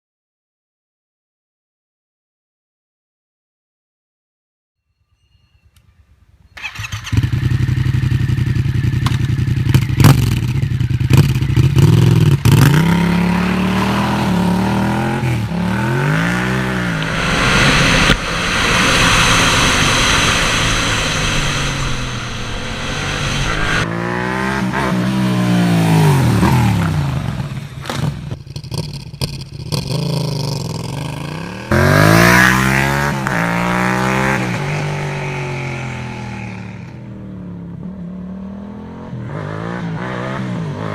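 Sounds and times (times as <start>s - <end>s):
motorcycle engine revving: 6.6s - 40.9s.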